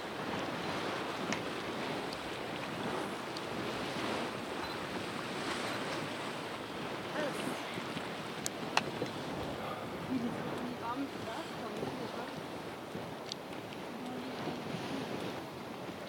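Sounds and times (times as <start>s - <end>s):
hot spring roaring and venting: 0.0s - 16.0s.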